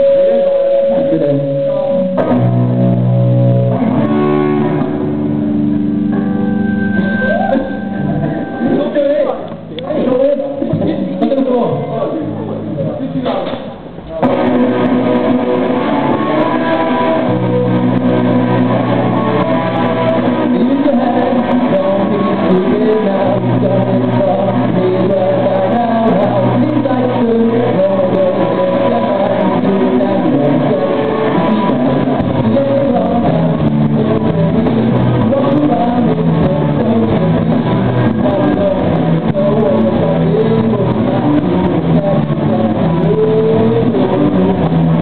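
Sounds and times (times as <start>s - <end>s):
drums: 0.0s - 45.0s
electric guitars: 0.0s - 45.0s.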